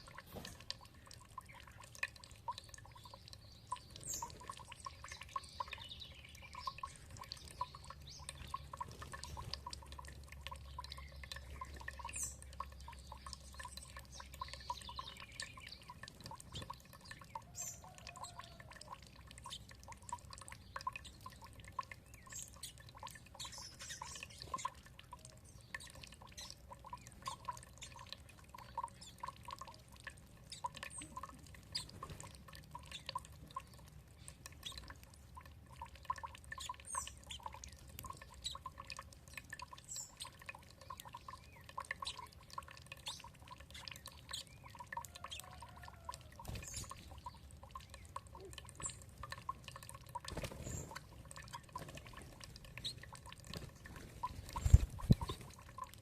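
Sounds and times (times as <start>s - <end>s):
water dripping and trickling: 0.0s - 56.0s.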